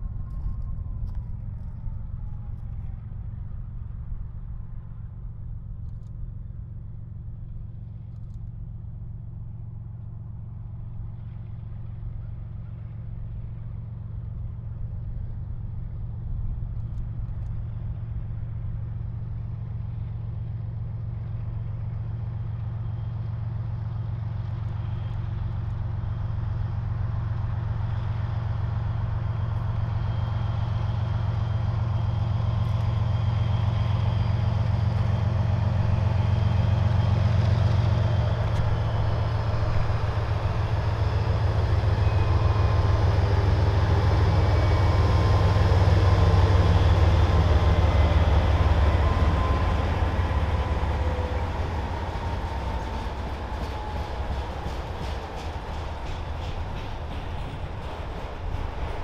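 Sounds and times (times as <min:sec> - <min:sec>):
diesel locomotive engine drone: 0:00.0 - 0:59.0
rail and wheel noise: 0:00.0 - 0:59.0.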